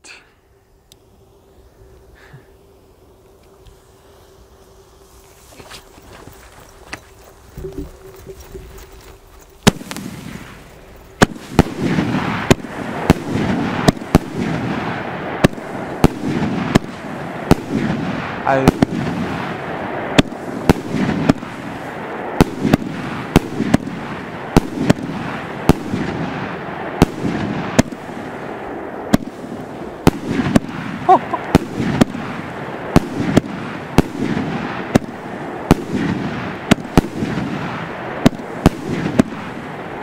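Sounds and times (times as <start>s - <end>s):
fireworks crackling and rumbling: 0.8s - 40.0s.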